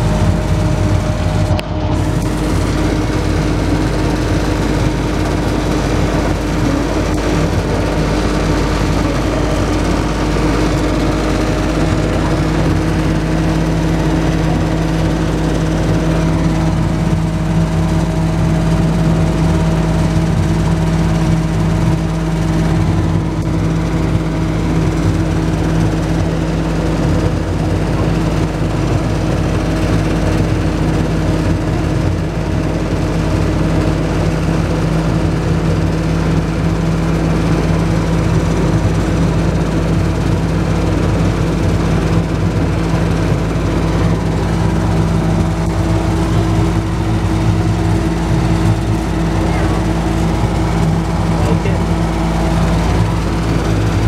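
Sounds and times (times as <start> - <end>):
train engine droning hum: 0.0 - 54.0.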